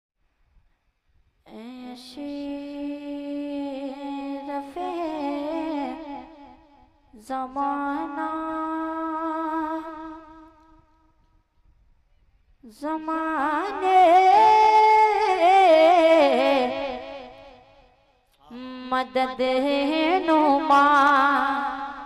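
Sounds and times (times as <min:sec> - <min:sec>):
boy singing into a microphone: 0:01.5 - 0:10.9, 0:12.6 - 0:17.7, 0:18.4 - 0:22.0.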